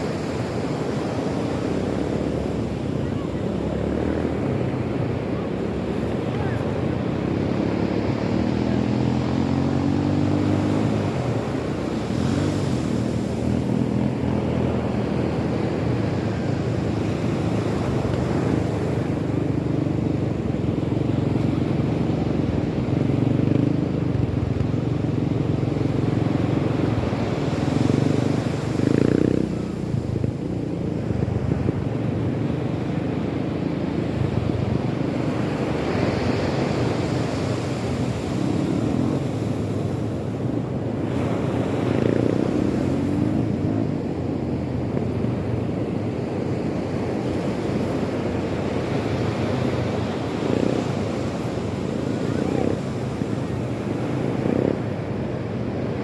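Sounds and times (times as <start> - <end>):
rushing outdoor noise: 0.0 - 56.0.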